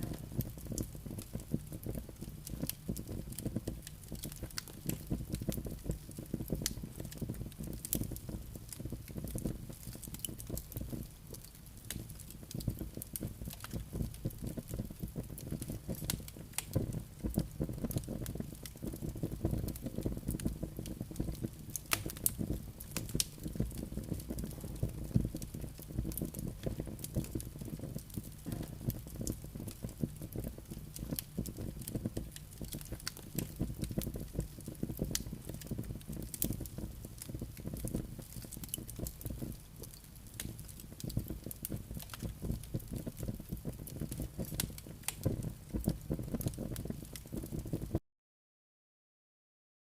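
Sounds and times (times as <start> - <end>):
logs crackling and popping: 0.0 - 48.0
low rumble of flame: 0.0 - 48.0.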